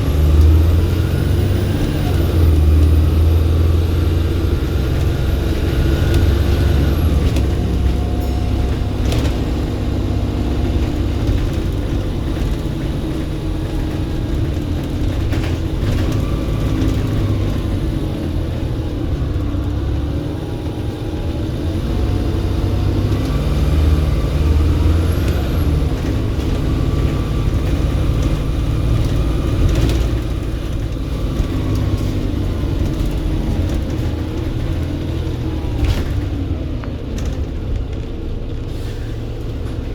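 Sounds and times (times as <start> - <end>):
diesel bus engine working hard: 0.0 - 39.9.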